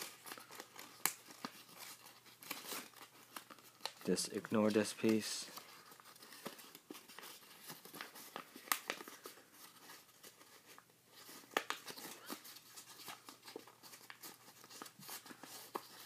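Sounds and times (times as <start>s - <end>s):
crisp paper clicks: 0.0s - 16.0s
paper crinkling and rustling: 0.0s - 16.0s.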